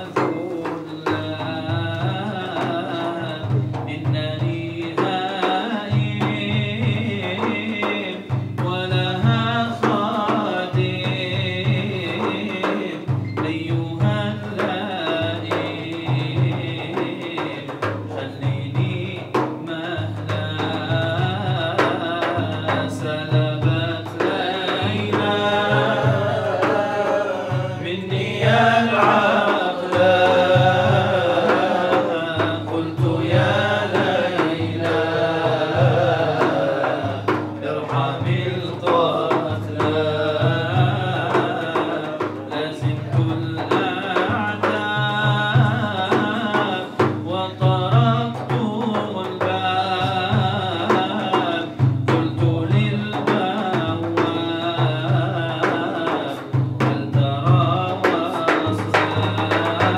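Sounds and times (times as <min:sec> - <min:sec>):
hand drum beat: 0:00.0 - 0:59.9
man singing into microphone: 0:00.0 - 0:59.9.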